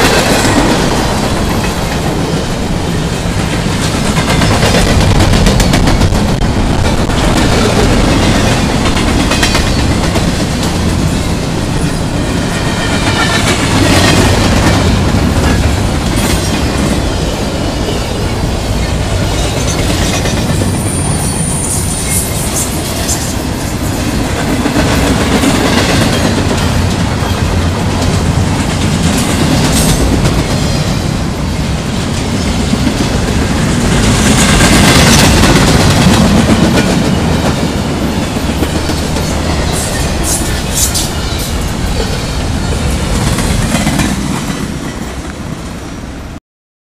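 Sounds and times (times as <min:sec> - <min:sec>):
train wheel clacks: 0:00.0 - 0:17.3, 0:18.4 - 0:45.4
freight train rumbling and rattling: 0:00.0 - 0:46.4.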